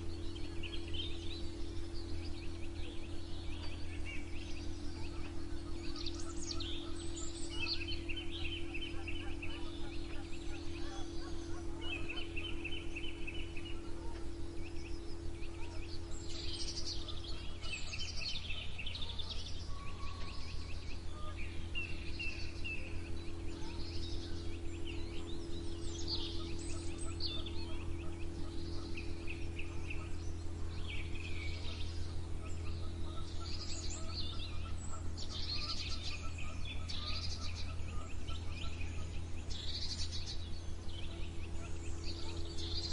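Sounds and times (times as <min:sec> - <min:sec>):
songbirds trilling and chirping: 0:00.0 - 0:42.9
steady low hum: 0:00.0 - 0:42.9.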